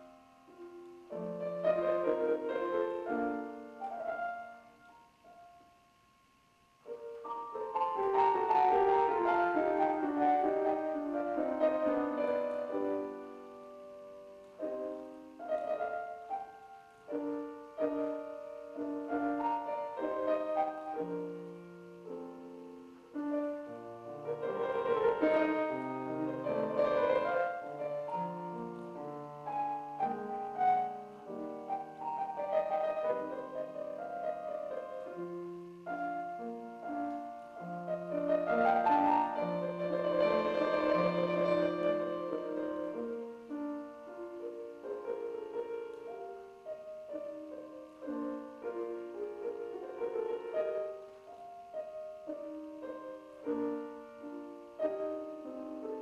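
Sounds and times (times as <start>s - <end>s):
solo grand piano piece: 0.0s - 56.0s.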